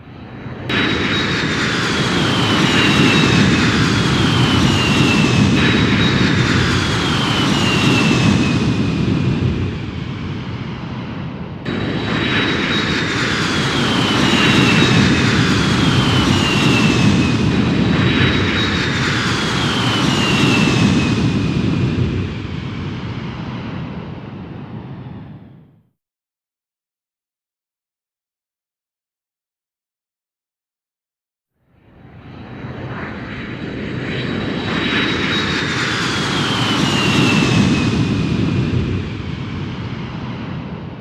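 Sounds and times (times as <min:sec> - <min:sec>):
fighter jets passing over: 0:00.0 - 0:25.8, 0:31.8 - 0:41.0.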